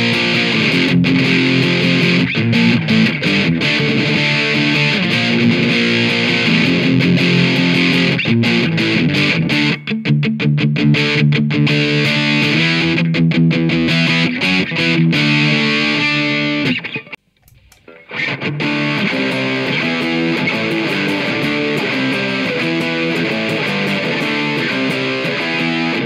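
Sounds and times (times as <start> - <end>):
overdriven electric guitar: 0.0 - 26.0.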